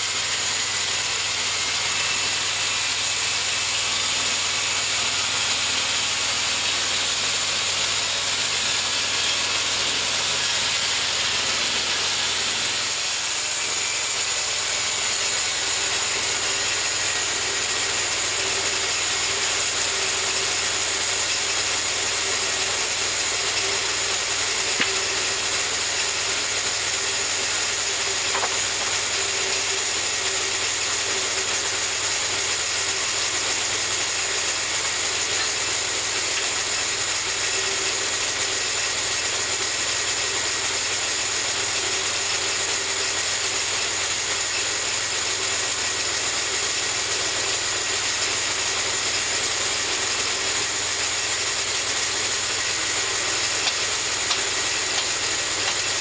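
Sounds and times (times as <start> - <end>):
bandsaw mill sawing a log: 0.0 - 56.0.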